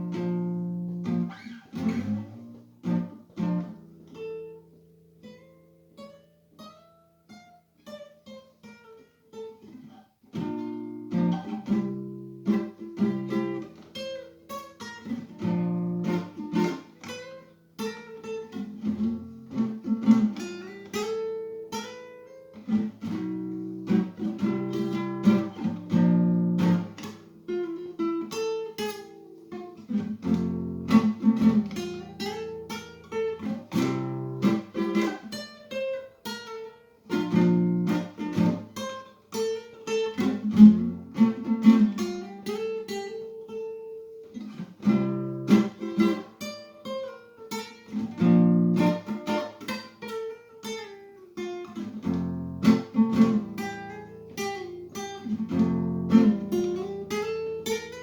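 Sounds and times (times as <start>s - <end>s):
acoustic guitar playing: 0.0s - 58.0s.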